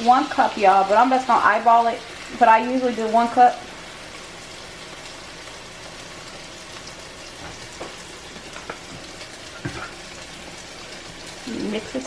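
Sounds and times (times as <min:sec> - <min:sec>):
butter and cream sizzling in a pan: 0:00.0 - 0:12.0.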